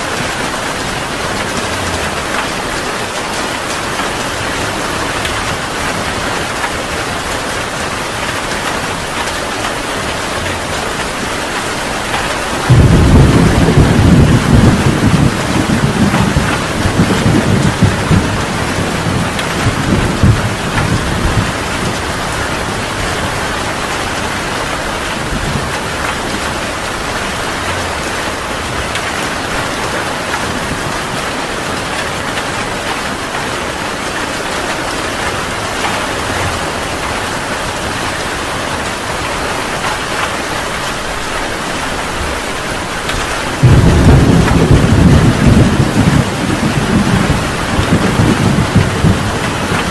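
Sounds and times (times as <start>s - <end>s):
heavy rain falling: 0.0s - 49.9s
thunder rumbling: 0.0s - 49.9s.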